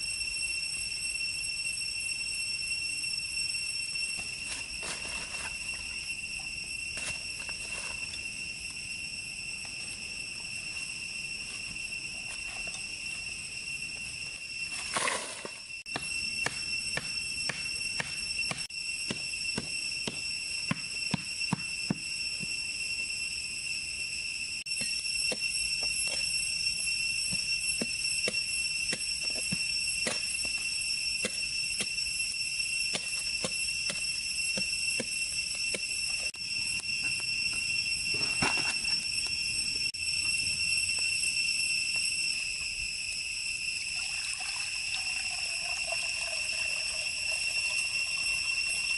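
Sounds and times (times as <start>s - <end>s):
forest insects droning: 0.0s - 48.9s.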